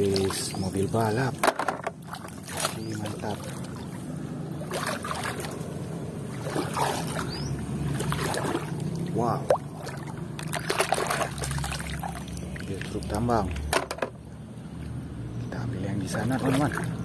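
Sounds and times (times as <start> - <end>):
water sloshing and splashing: 0.0 - 15.0, 16.0 - 17.0
steady low hum: 0.0 - 17.0.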